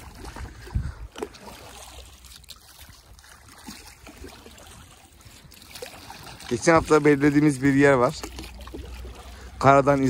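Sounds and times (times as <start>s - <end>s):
water lapping against boat: 0.0s - 10.0s.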